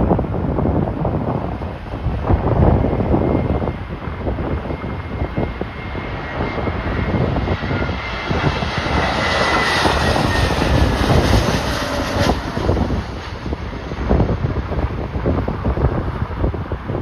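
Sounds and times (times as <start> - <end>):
jet airliner engine noise: 0.0 - 17.0
wind buffeting microphone: 0.0 - 17.0
high engine whine: 0.1 - 17.0.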